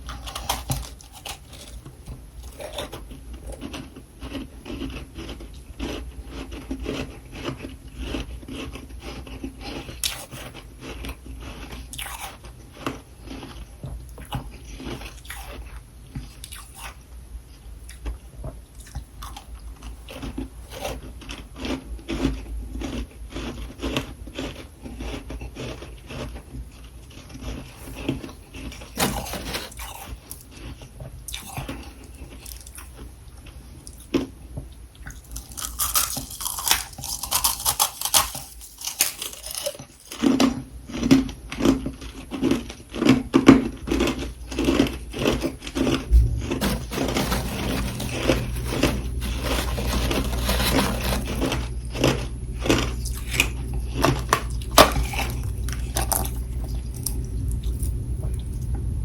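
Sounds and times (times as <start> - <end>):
person chewing crunchy food: 0.0 - 58.7.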